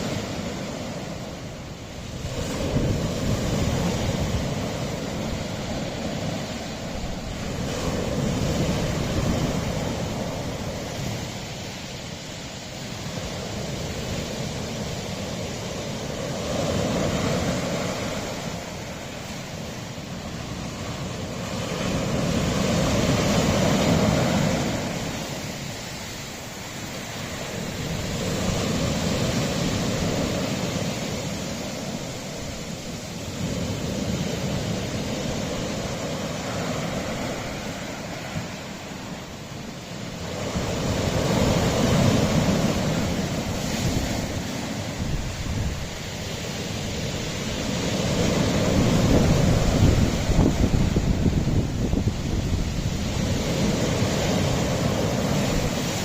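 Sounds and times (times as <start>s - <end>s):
waves washing on rocky shore: 0.0s - 56.0s.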